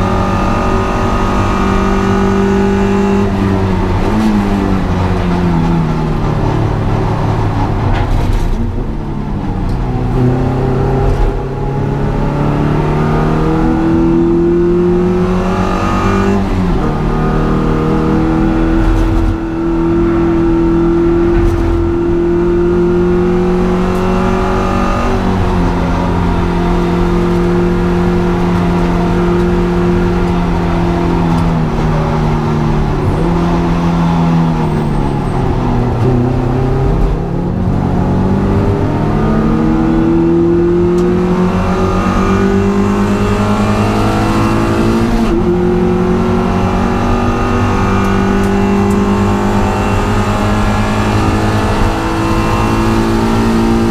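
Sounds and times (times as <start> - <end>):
car engine revving hard: 0.0 - 8.3, 9.8 - 53.9
tyre and road noise: 0.0 - 53.9.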